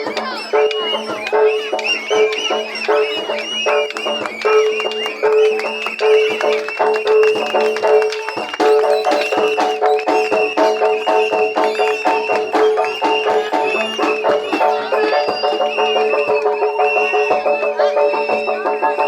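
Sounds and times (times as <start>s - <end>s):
fast drum strokes: 0.0s - 19.0s
reedy wind instrument melody: 0.0s - 19.0s.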